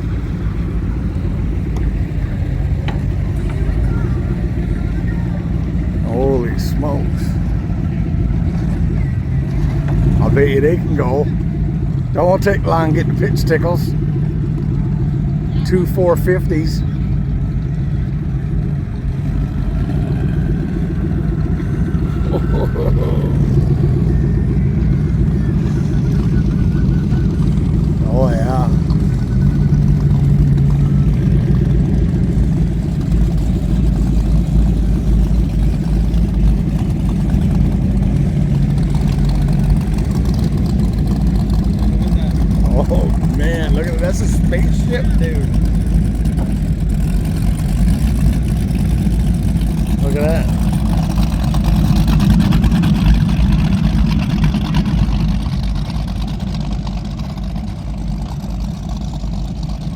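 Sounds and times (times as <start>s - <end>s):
powerboat engines idling: 0.0s - 59.9s.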